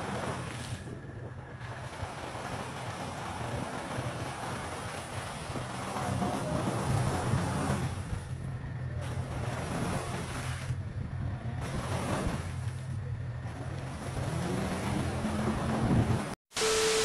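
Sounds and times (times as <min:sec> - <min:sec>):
splashes of mud and water: 0:00.0 - 0:16.4
car engine running hard: 0:00.0 - 0:17.0
wheels churning through slush: 0:00.0 - 0:17.0.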